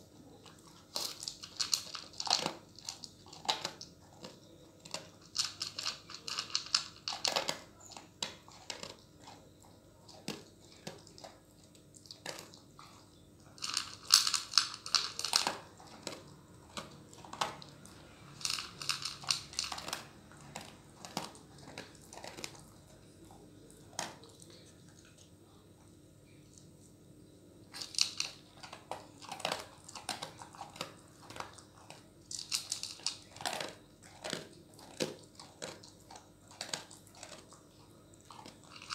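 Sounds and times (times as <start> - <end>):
dog crunching dry kibble: 0.0 - 25.3, 27.7 - 38.9.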